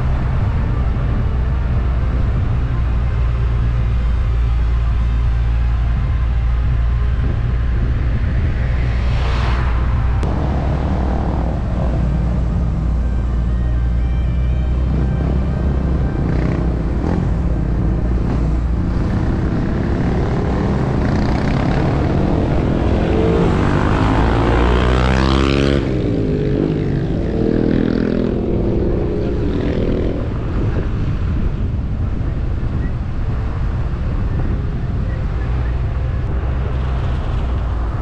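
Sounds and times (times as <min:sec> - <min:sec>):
sweeping rise-and-fall tone: 0:00.0 - 0:30.5.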